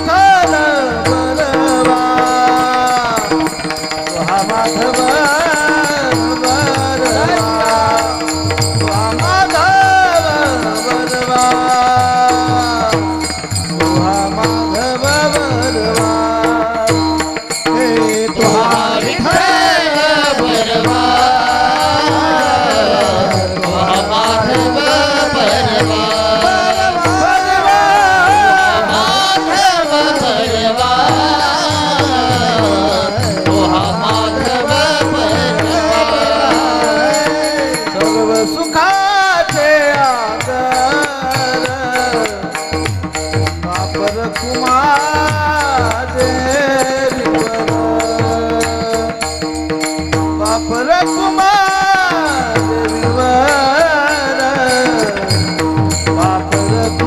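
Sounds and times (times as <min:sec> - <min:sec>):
rhythmic percussion: 0:00.0 - 0:57.0
wordless melodic singing: 0:00.0 - 0:57.0.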